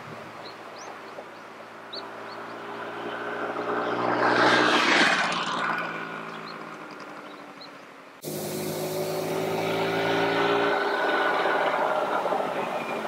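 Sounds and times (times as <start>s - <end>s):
scooter engine passing by: 1.8s - 7.6s, 8.2s - 13.0s.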